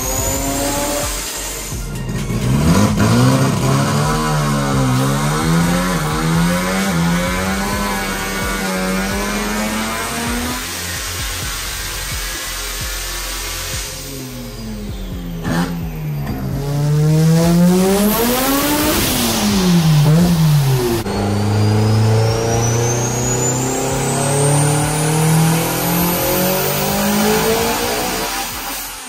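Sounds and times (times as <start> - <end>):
high turbo whine: 0.0 - 29.0
turbocharged car engine revving: 0.0 - 29.0.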